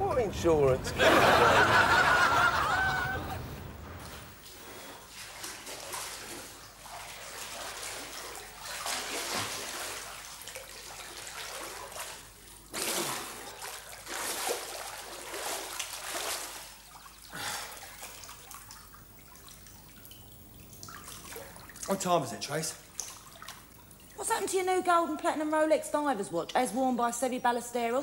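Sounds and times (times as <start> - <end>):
pool water splashing: 0.0 - 27.9.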